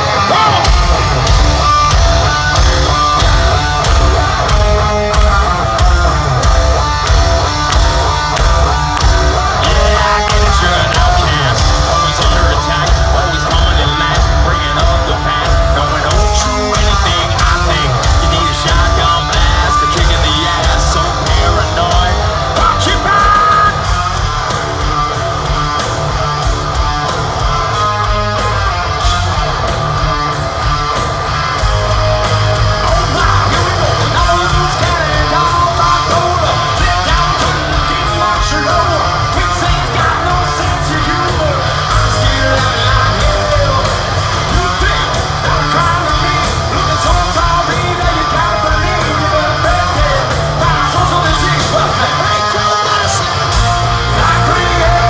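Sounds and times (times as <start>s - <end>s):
person singing: 0.0s - 24.0s, 32.2s - 55.0s
electric guitars: 0.0s - 55.0s
steady drum beat: 0.0s - 55.0s.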